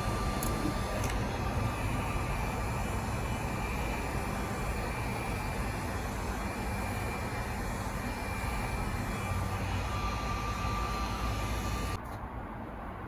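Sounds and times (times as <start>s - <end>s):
electric power sander whirring: 0.0s - 12.0s.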